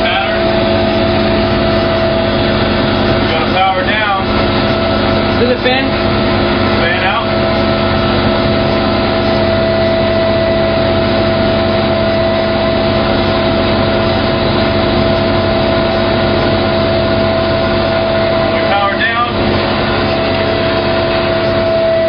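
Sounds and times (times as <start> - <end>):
truck engine droning with whine: 0.0 - 22.0.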